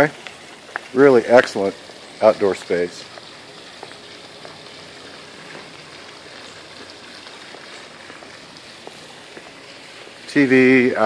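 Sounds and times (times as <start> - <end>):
water splashing into pool: 0.0 - 11.0.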